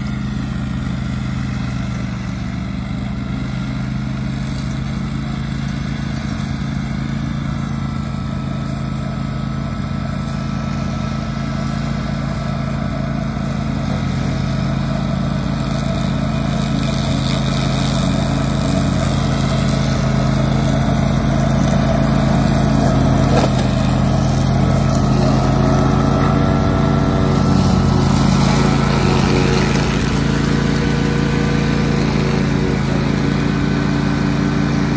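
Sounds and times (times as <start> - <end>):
mower engine running: 0.0 - 34.9.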